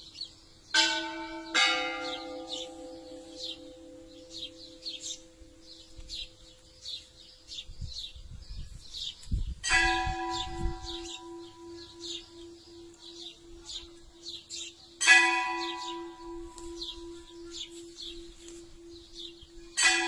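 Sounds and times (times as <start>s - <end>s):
bird chirping: 0.0s - 20.0s
church bell tolling: 0.7s - 6.6s, 9.6s - 20.0s.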